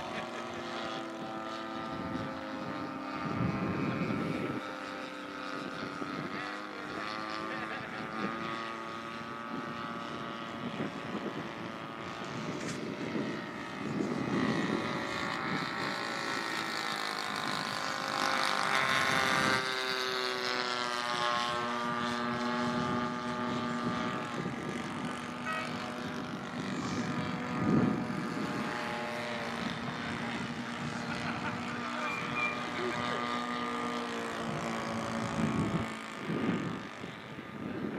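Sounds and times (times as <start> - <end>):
model aircraft engines droning: 0.0 - 37.9.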